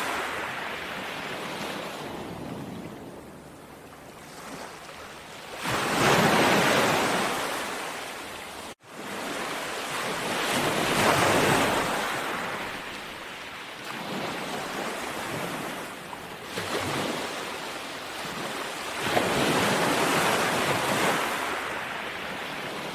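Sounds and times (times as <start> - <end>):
sea waves washing onto shore: 0.0 - 22.9.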